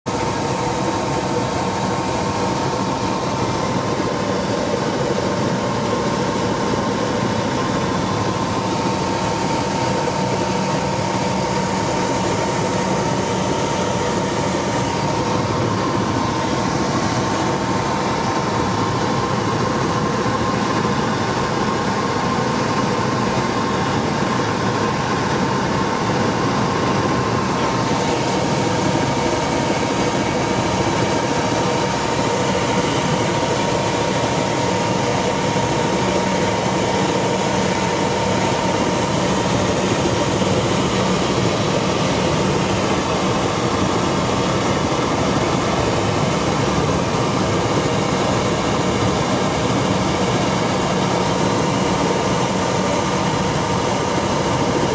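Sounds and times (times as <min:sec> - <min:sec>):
helicopter engine and rotor drone: 0:00.0 - 0:54.9
high whine: 0:00.1 - 0:54.9.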